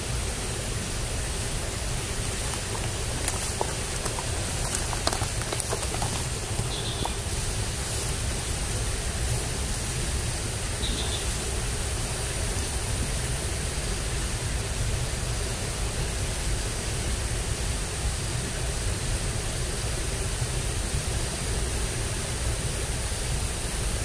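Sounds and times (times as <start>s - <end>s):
water rushing in a ditch: 0.0s - 24.0s.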